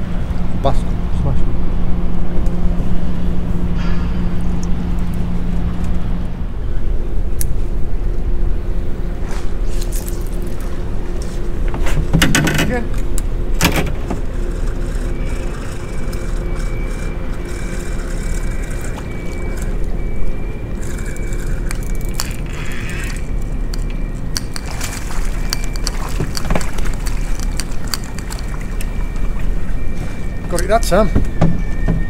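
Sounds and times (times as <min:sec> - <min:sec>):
water noise: 0:00.0 - 0:32.0.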